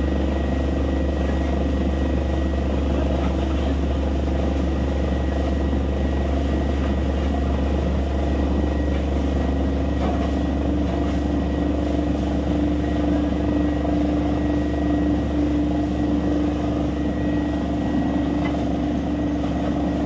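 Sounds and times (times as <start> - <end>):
drilling rig humming: 0.0 - 20.0.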